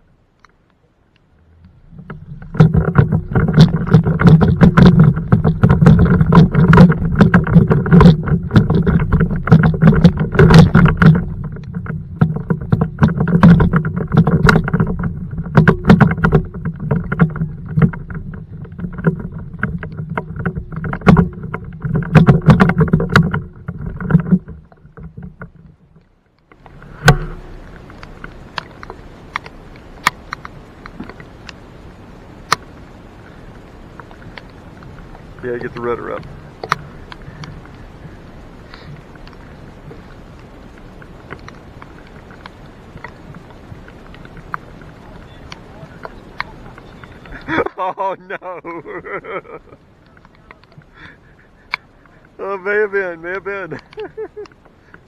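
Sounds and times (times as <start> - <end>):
faint rain hiss: 0.0 - 55.0.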